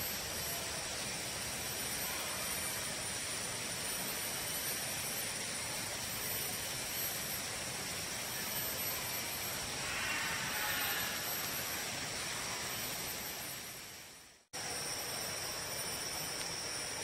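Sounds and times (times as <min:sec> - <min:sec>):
rushing hiss: 0:00.0 - 0:14.2
insects droning: 0:00.0 - 0:17.0.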